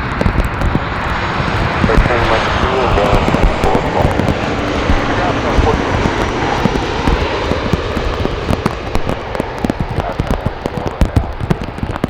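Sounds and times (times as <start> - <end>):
jet airliner engine noise: 0.0 - 12.0
raindrops tapping on microphone: 0.0 - 12.0.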